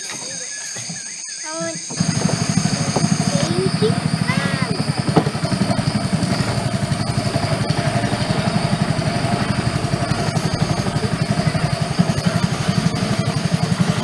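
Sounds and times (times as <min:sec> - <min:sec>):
boat motor chugging: 0:00.0 - 0:14.0.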